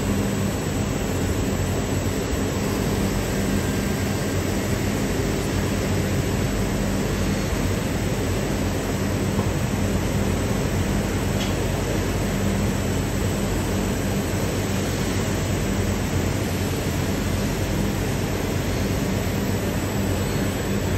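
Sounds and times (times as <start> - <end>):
low machine hum: 0.0 - 20.9.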